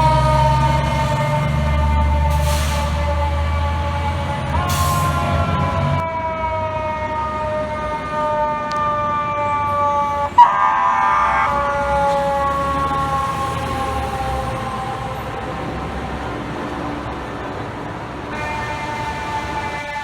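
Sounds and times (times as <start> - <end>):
fire truck siren wailing: 0.0 - 20.0
heavy engine rumble: 0.0 - 20.0.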